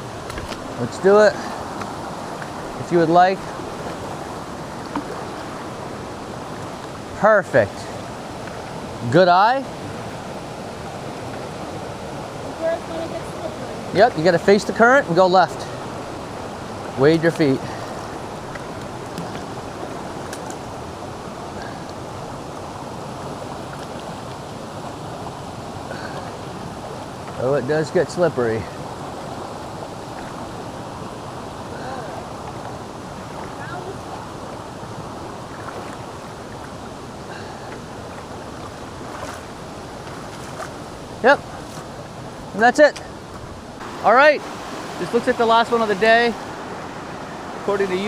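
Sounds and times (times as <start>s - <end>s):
stream rushing: 0.0s - 48.0s.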